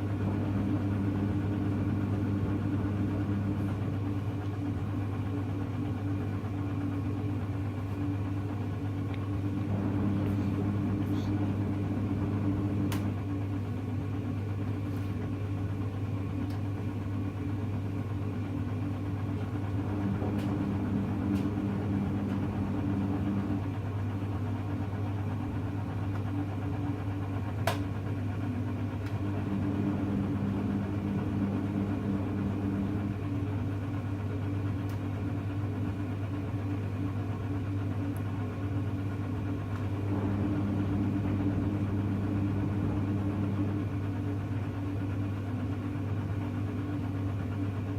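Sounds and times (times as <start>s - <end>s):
drum motor: 0.0s - 14.1s, 15.2s - 47.9s
washing machine running: 0.0s - 47.9s.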